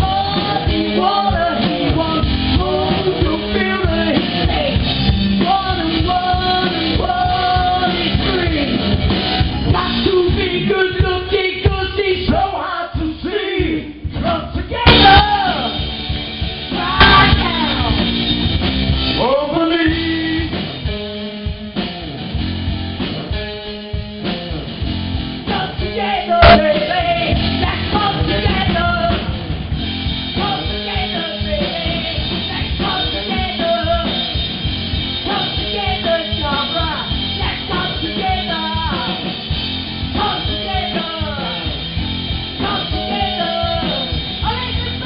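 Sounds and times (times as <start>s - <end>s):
electric guitar: 0.0s - 12.6s, 13.3s - 45.0s
person singing lead vocal: 0.0s - 15.9s, 16.7s - 18.2s, 19.2s - 20.8s, 25.4s - 29.6s, 30.3s - 34.5s, 35.2s - 41.9s, 42.5s - 45.0s
bass guitar: 0.0s - 45.0s
drum kit: 0.0s - 45.0s.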